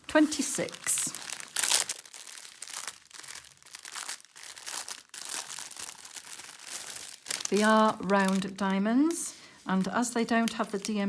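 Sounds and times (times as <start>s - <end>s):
plastic packets crinkling: 0.0s - 11.0s.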